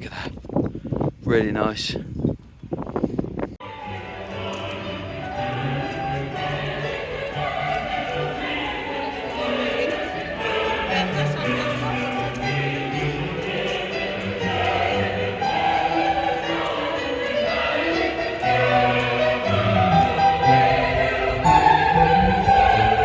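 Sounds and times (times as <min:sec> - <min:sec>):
choir singing held notes: 0:03.6 - 0:23.0.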